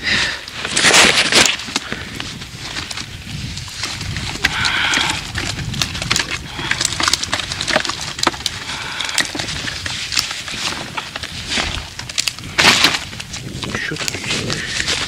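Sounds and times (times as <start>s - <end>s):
fish flapping in a bucket: 2.9s - 15.0s.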